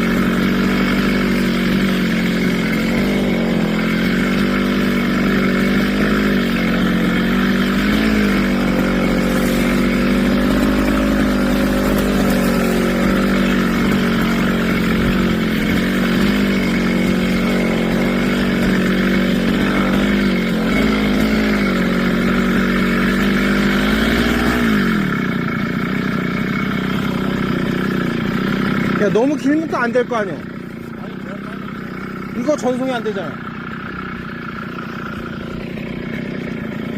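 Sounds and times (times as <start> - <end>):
brush cutter engine running: 0.0 - 36.9.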